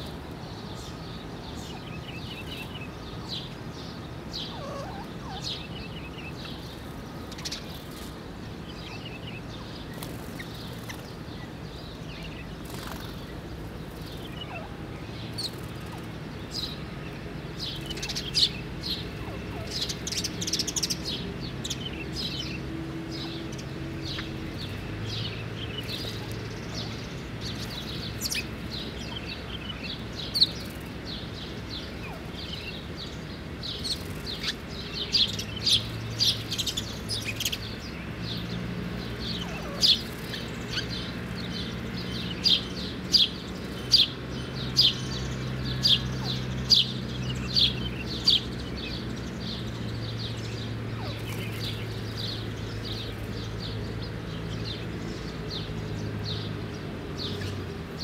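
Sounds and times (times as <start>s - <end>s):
sparrows chirping: 0.0s - 58.0s.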